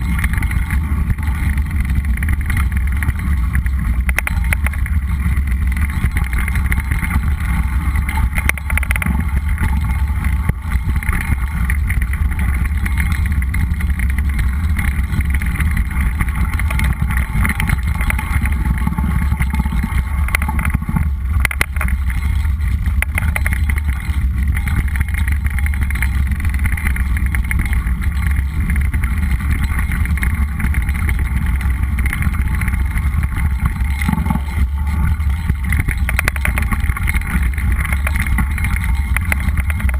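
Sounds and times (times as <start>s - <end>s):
bike clicks and rattles: 0.0s - 39.9s
tyres rolling on dirt: 0.0s - 39.9s.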